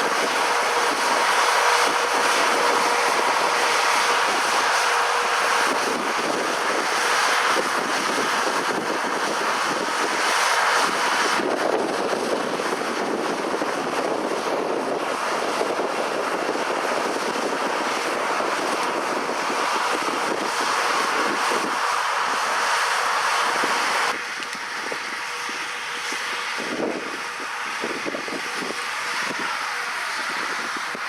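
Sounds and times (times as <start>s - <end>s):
combine harvesters rushing: 0.0s - 31.0s
wind on microphone: 0.0s - 31.0s.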